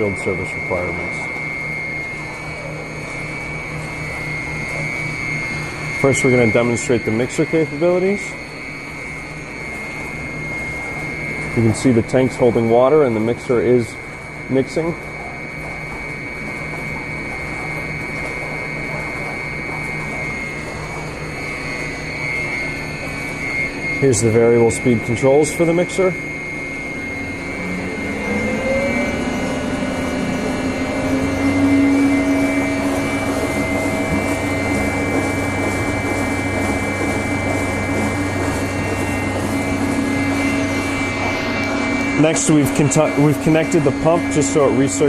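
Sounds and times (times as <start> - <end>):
low pulsing hum: 0.0 - 45.0
mixer motor high whine: 0.0 - 45.0
water churning: 0.0 - 45.0.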